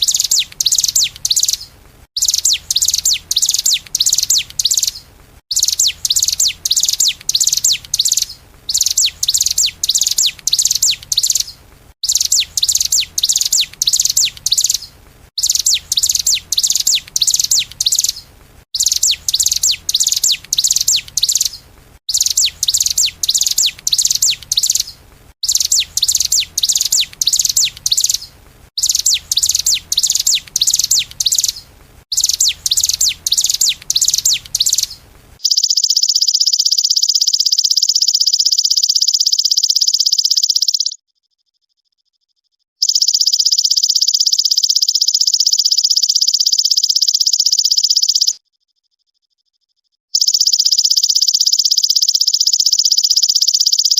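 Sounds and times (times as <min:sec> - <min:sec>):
songbird chirping: 0:00.0 - 0:41.0, 0:42.8 - 0:48.9, 0:49.8 - 0:53.9.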